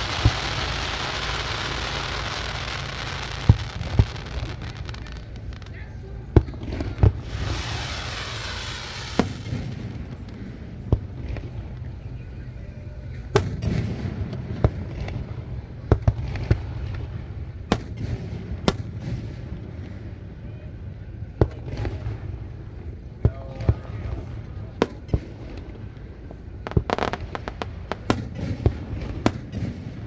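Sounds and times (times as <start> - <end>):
firework crackling: 0.0 - 19.4, 23.9 - 30.0
firework bangs: 0.0 - 20.2, 23.6 - 30.0.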